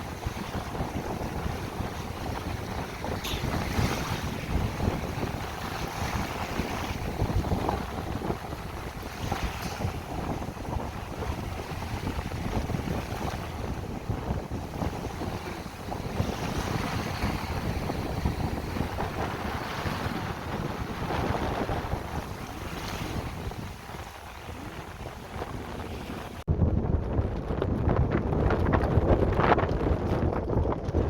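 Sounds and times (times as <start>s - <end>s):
water splashing under board: 0.0s - 26.4s
wind buffeting microphone: 0.0s - 31.0s.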